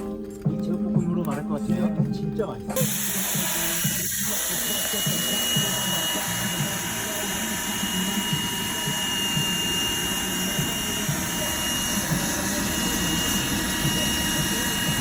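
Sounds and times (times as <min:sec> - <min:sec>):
high whine: 0:02.8 - 0:15.0
machine droning: 0:02.8 - 0:15.0.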